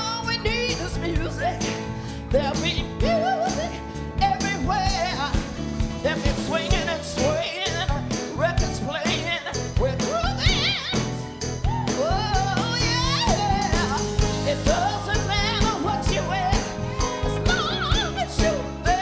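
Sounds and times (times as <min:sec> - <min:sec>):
steady drum beat: 0:00.0 - 0:19.0
singers with vibrato: 0:02.4 - 0:19.0.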